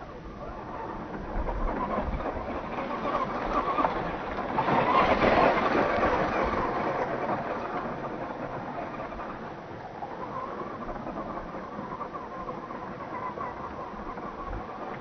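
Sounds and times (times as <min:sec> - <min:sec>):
toy truck electric motor: 0:00.5 - 0:15.0.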